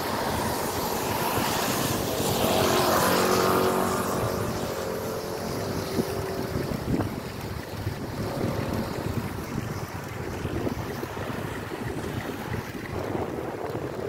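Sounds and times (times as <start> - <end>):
tyres hissing on wet road: 0.0 - 13.6
wind buffeting microphone: 0.0 - 14.0.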